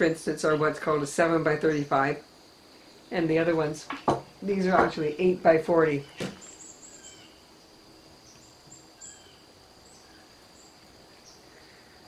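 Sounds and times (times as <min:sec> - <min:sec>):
faint small birds chirping: 0:00.0 - 0:12.0.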